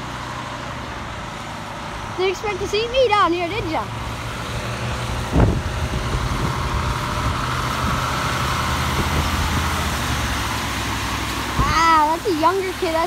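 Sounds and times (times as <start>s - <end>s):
truck diesel engine passing: 0.0s - 13.0s
tyres hissing on wet road: 0.0s - 13.0s.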